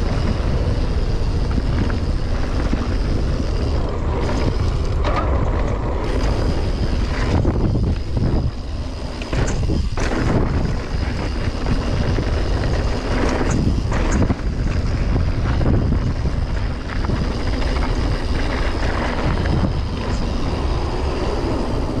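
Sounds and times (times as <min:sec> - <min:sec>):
bike knocks and rattles: 0:00.0 - 0:21.2
tyre noise on dirt: 0:00.0 - 0:22.0
wind rumble on microphone: 0:00.0 - 0:22.0.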